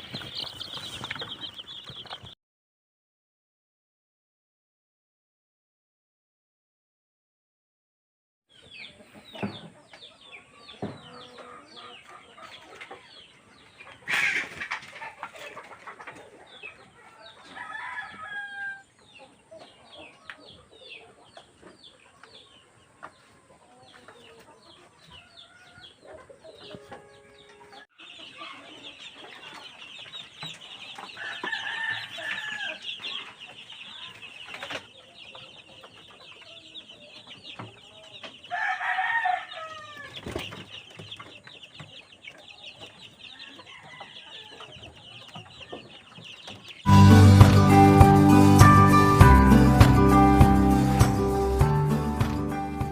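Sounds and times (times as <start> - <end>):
chicks peeping: 0.0 - 2.4, 8.5 - 52.9.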